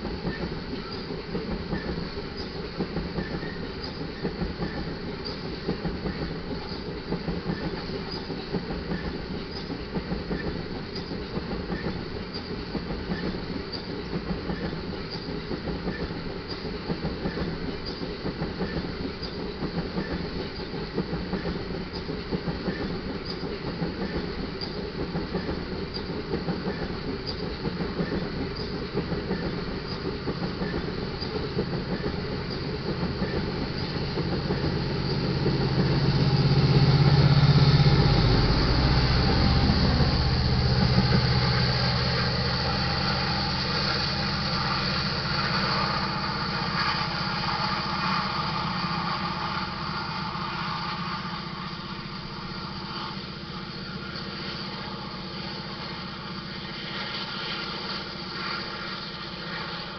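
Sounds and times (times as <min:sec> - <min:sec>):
locomotive engine drone: 0:00.0 - 0:59.9
rail car wheel clatter: 0:00.0 - 0:59.9.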